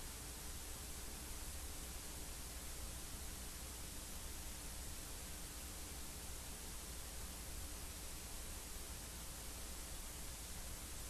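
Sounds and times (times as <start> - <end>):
static hiss: 0.0 - 11.0.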